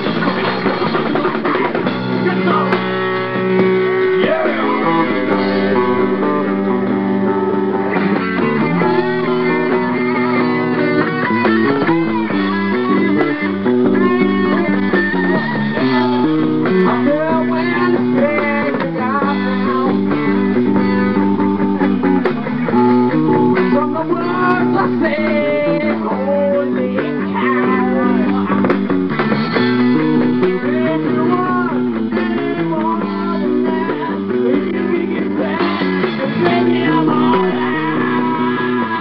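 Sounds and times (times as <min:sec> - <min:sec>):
electric guitar lines: 0:00.0 - 0:39.0
rock band playing: 0:00.0 - 0:39.0.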